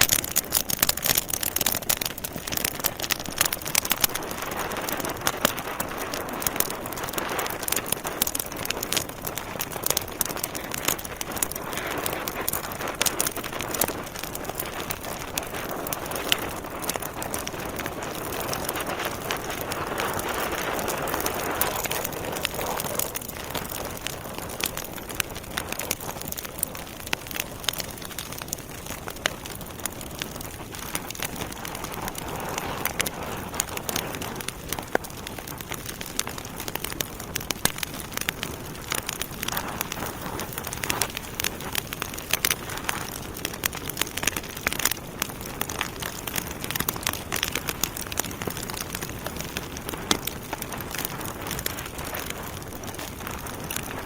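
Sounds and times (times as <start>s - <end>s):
logs crackling and popping: 0.0s - 54.0s
wood fire hissing: 0.0s - 54.0s.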